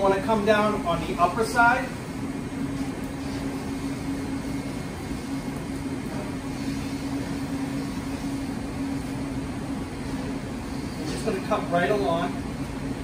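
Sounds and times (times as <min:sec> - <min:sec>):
kitchen machinery hum: 0:00.0 - 0:13.0.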